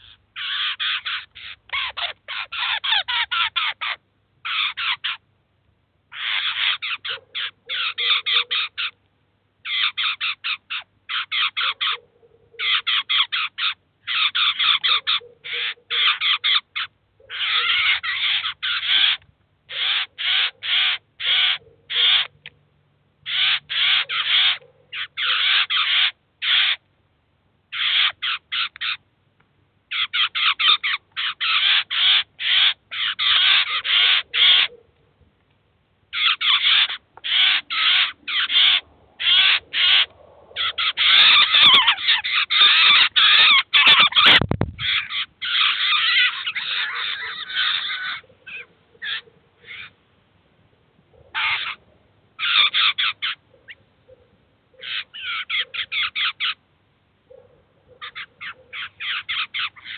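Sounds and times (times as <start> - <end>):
fledglings begging calls: 0.0 - 5.2, 6.1 - 9.0, 9.6 - 22.5, 23.2 - 26.9, 27.7 - 29.0, 29.9 - 34.8, 36.1 - 50.0, 51.3 - 53.8, 54.8 - 56.6, 58.0 - 59.9.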